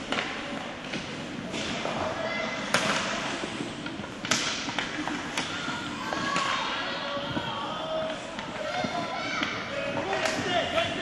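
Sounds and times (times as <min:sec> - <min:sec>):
hockey sticks and puck clacking: 0:00.0 - 0:11.0.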